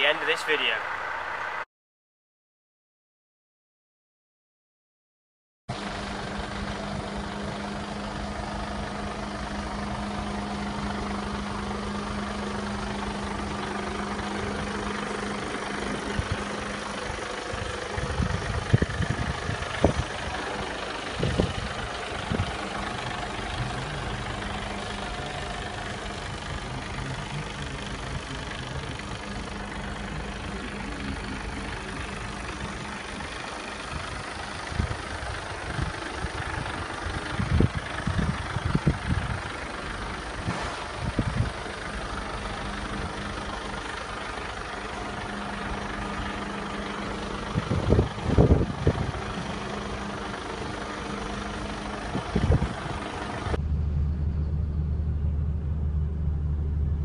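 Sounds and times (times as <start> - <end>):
diesel engine idling: 0.0 - 1.6, 5.7 - 57.0.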